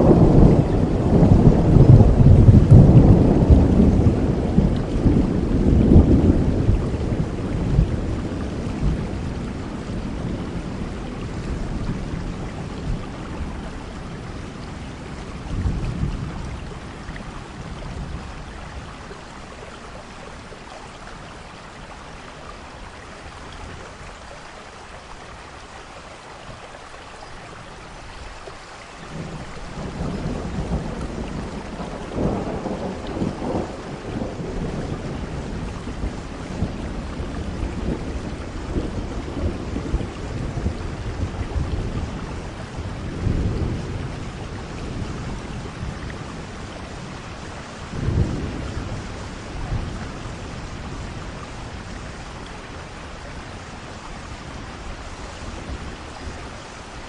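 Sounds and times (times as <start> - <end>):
rolling thunder: 0.0 - 19.2, 29.1 - 56.9
steady rain falling: 0.0 - 57.0.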